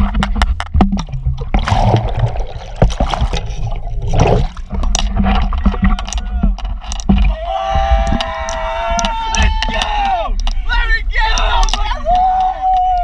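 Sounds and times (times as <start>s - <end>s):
steady low rumble: 0.0s - 12.7s
water splashing and sloshing: 0.0s - 12.9s.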